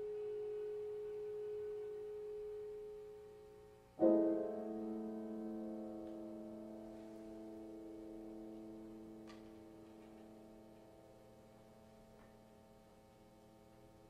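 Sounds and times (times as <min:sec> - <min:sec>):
piano chord ringing: 0:00.0 - 0:13.0.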